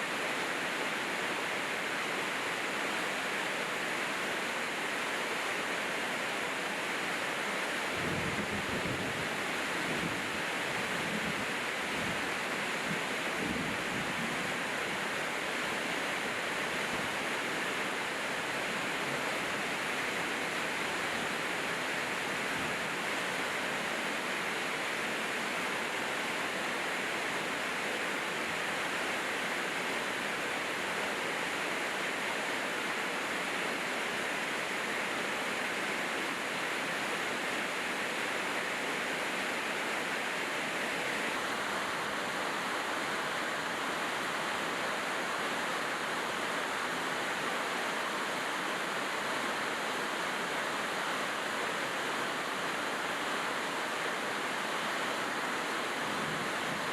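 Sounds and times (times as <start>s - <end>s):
heavy rainfall: 0.0s - 56.9s.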